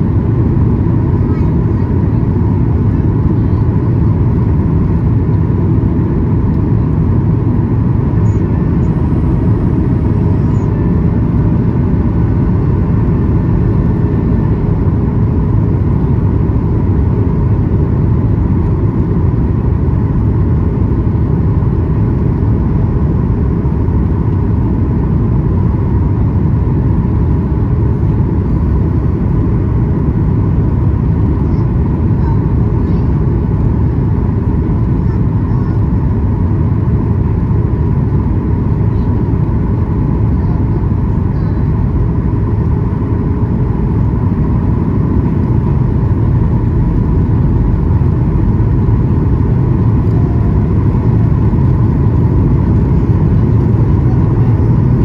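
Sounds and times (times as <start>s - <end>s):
airplane cabin rumble: 0.0s - 55.0s
faint steady hum: 0.0s - 55.0s.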